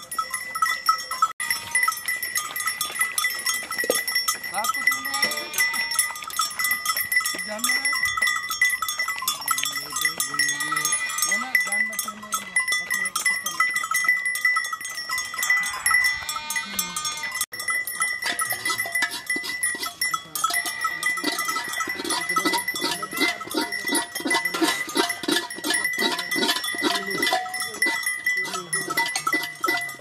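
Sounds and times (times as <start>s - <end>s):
animal bells clinking: 0.0s - 30.0s
sheep and goats bleating: 1.4s - 2.2s, 2.8s - 14.2s, 15.1s - 27.6s.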